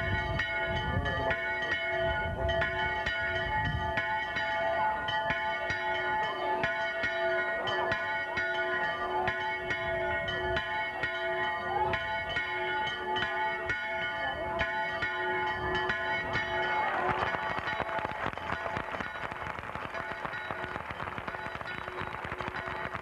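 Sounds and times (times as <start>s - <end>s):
tuned bells pealing: 0.0s - 23.0s.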